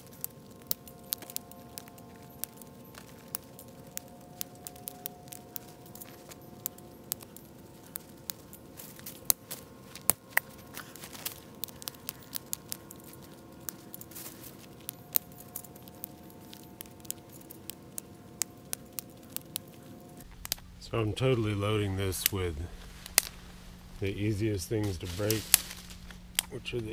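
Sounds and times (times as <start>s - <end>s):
twigs snapping: 0.0s - 26.9s.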